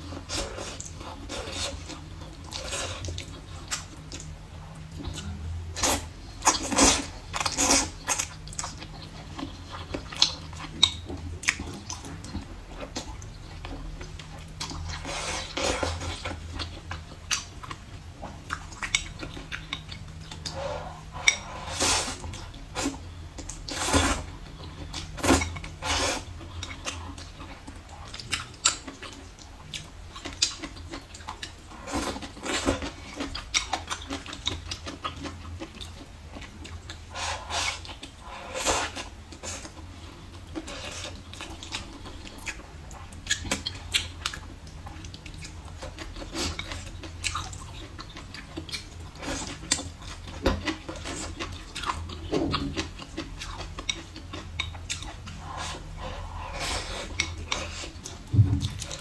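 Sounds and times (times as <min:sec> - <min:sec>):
chewing and biting food: 0:00.0 - 0:59.0
faint low hum: 0:00.0 - 0:59.0.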